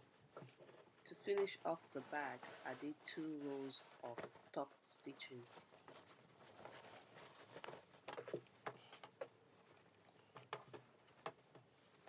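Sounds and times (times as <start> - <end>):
fabric rustling: 0.0 - 12.0.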